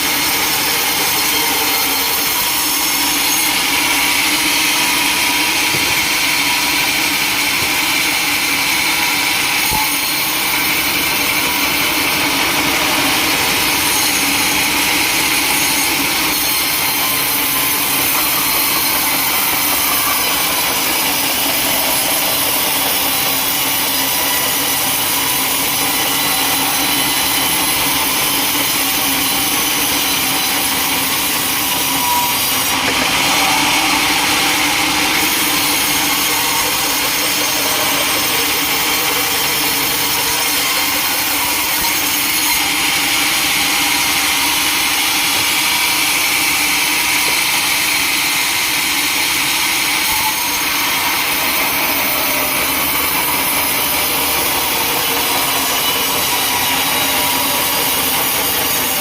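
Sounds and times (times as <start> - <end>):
saw cutting through wood: 0.0 - 59.0.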